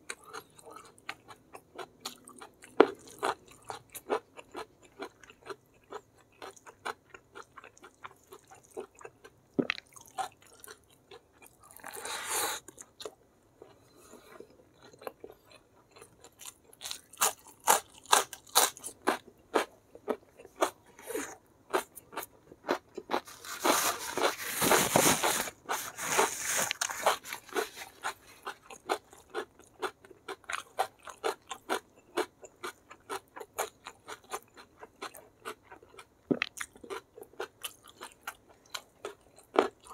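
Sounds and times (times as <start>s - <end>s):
chewing with crunches: 0.0s - 39.9s.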